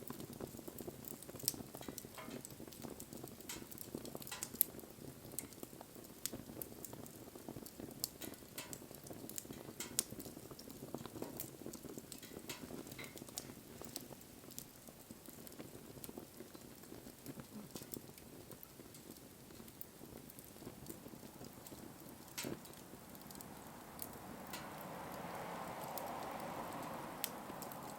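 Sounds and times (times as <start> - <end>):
burning wood crackling and popping: 0.0 - 27.9
flames rushing: 0.0 - 27.9.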